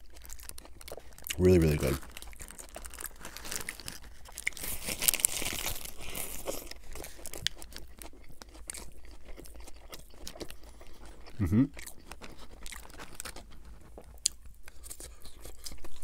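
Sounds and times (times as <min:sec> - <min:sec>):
lettuce crunching while chewing: 0:00.0 - 0:16.0.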